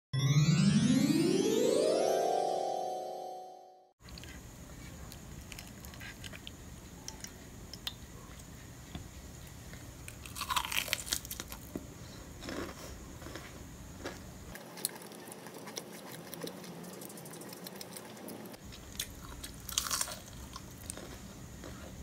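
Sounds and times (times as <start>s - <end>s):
crunchy food being chewed: 4.0s - 22.0s.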